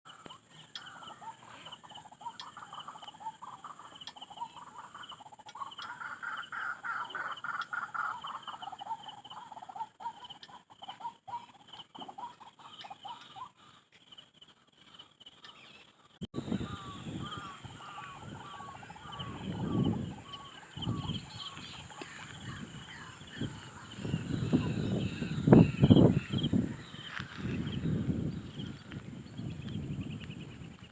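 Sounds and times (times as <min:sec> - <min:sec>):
birds calling: 0:00.1 - 0:30.9.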